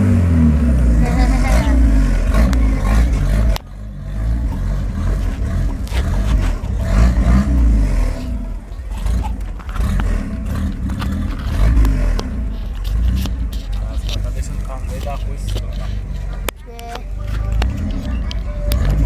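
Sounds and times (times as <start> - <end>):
car engine revving: 0.0 - 19.0
exhaust pops and crackles: 0.0 - 19.0.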